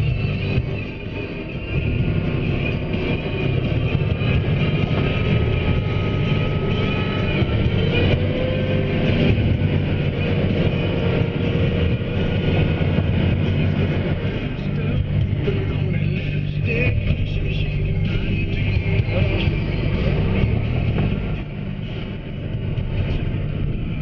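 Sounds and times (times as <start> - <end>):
faint whine: 0.0 - 24.0
truck diesel engine running: 0.0 - 24.0.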